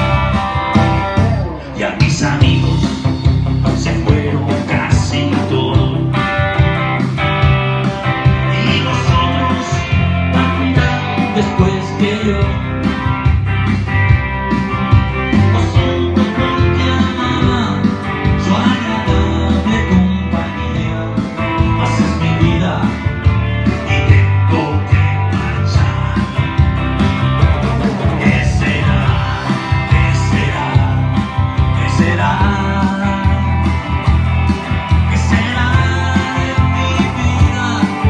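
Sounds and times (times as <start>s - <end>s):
electric guitar pop-rock song: 0.0s - 38.0s
steady drum beat: 0.0s - 38.0s.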